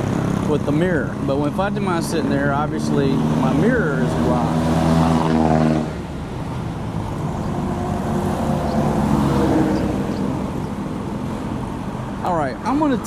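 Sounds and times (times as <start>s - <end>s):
traffic and road noise: 0.0s - 13.0s.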